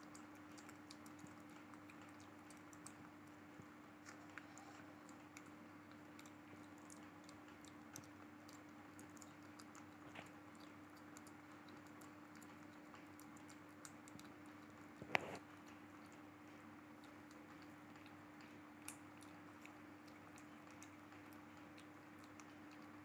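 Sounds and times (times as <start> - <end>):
kitten chewing and licking: 0.0 - 23.0
low steady hum: 0.0 - 23.0.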